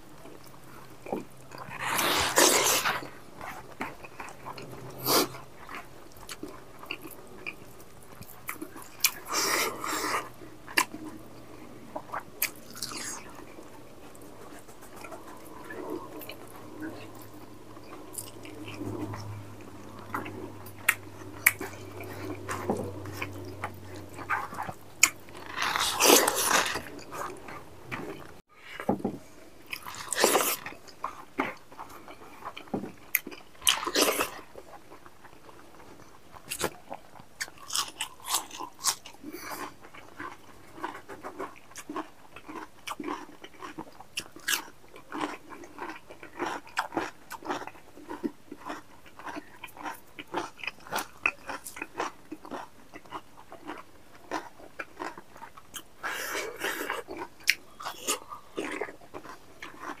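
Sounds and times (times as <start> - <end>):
man chewing and biting: 0.2 - 28.9, 29.7 - 60.0.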